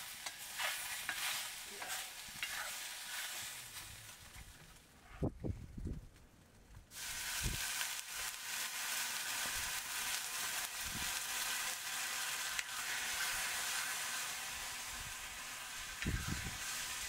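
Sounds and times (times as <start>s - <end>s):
food sizzling in hot oil: 0.0s - 4.3s, 6.9s - 17.0s.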